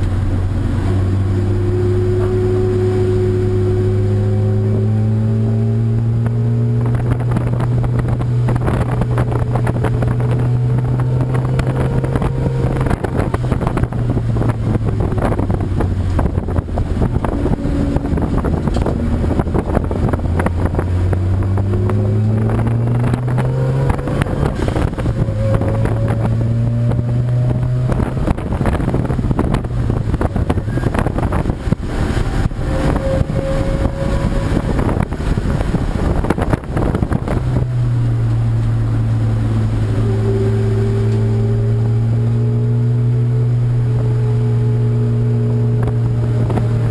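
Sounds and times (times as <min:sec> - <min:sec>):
racing car engines: 0:00.0 - 0:46.9
wind buffeting microphone: 0:00.0 - 0:46.9.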